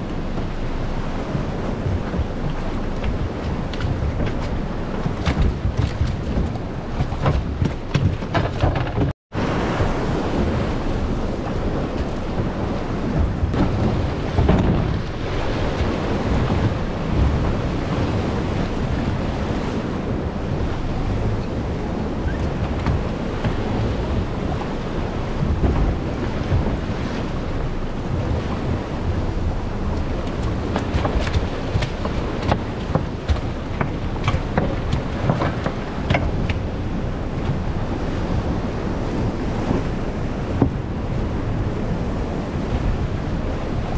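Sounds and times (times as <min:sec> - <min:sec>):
wind buffeting microphone: 0:00.0 - 0:43.9
surf breaking on rocks: 0:01.1 - 0:43.2.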